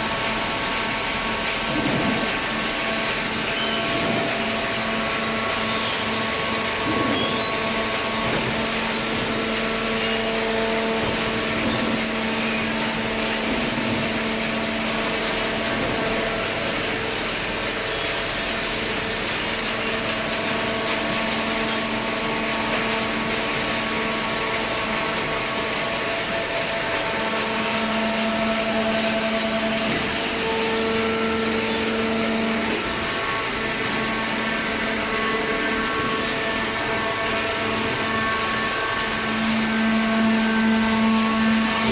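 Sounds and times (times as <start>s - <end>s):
hydraulic unit hum: 0.0s - 41.9s.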